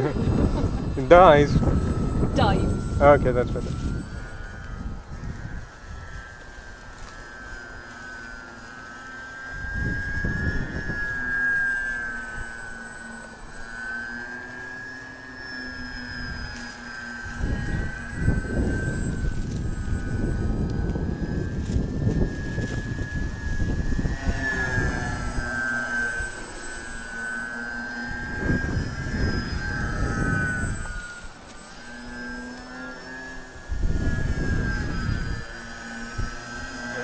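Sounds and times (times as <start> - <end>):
model plane motors whining: 0.0 - 37.0
wind noise on microphone: 0.0 - 37.0.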